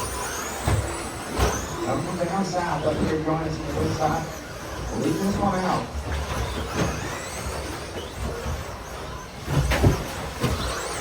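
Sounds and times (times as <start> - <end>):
toy truck motors whining: 0.0 - 11.0.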